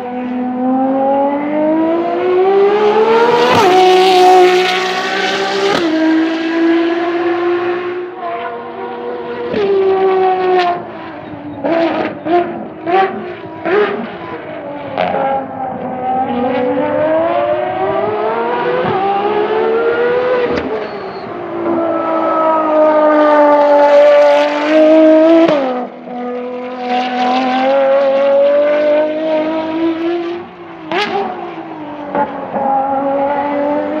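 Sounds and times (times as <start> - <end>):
racing engine accelerating: 0.0 - 34.0.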